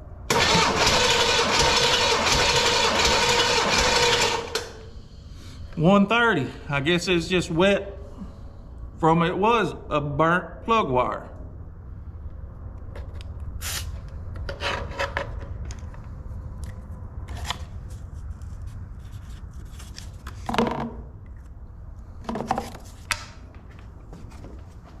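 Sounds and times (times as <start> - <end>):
steady low hum: 4.4 - 25.0.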